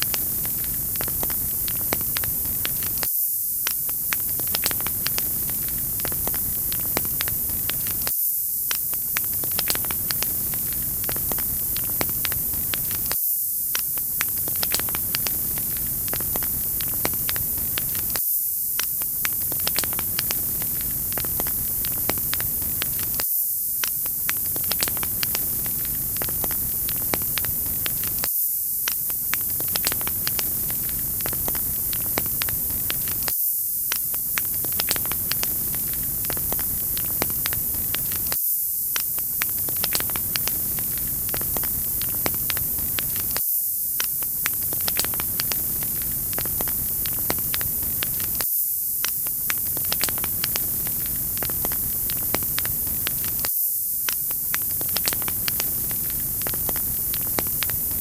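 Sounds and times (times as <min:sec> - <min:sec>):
wood fire crackling: 0:00.0 - 0:08.1, 0:08.7 - 0:18.2, 0:18.8 - 0:23.2, 0:23.8 - 0:33.3, 0:34.0 - 0:43.4, 0:44.0 - 0:48.4, 0:49.0 - 0:58.0.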